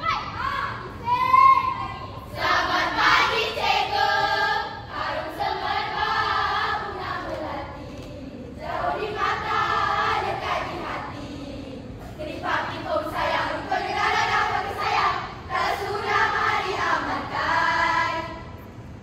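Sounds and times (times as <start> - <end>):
girls chanting in unison: 0.0 - 18.5.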